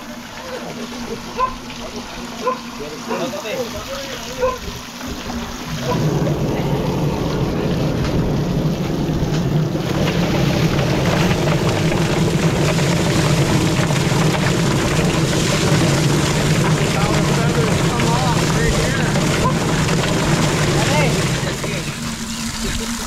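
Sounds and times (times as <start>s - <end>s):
motor humming: 0.0s - 23.0s
rattling hiss: 2.8s - 23.0s.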